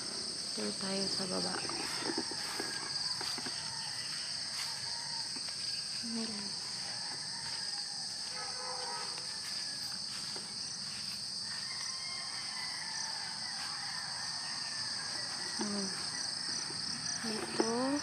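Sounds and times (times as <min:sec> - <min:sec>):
insects chorus droning: 0:00.0 - 0:18.0.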